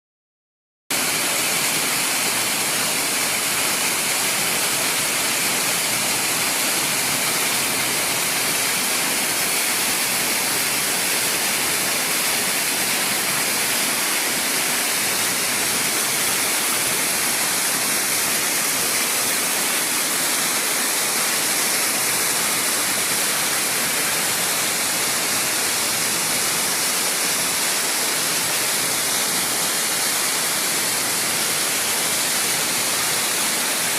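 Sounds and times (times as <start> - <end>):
waterfall roaring: 1.0 - 33.9.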